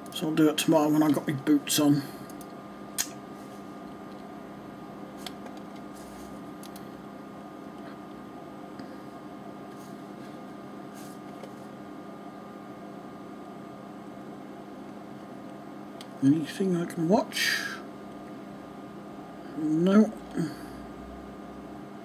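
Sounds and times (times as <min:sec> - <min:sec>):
computer fan hum: 0:00.0 - 0:22.0.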